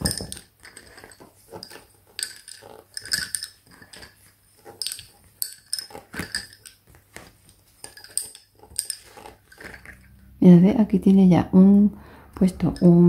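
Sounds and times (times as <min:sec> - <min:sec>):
lace bobbins clicking: 0:00.0 - 0:10.3, 0:12.3 - 0:13.0.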